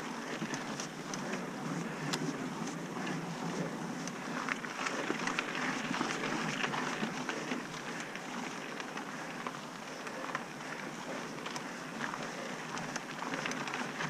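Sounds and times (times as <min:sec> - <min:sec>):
bike clicks and rattles: 0:00.0 - 0:14.0.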